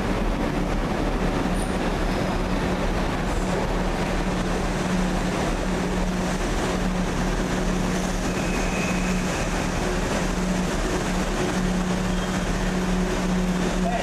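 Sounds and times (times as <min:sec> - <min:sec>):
steady hum: 0:00.0 - 0:14.0
train moving slowly: 0:00.0 - 0:14.0
wheel and running noise: 0:00.0 - 0:14.0.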